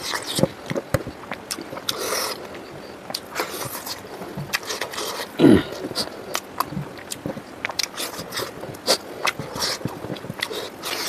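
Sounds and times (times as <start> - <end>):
low-pitched mouth sound: 0.0 - 11.0
wet chewing and lip smacks: 0.0 - 11.0.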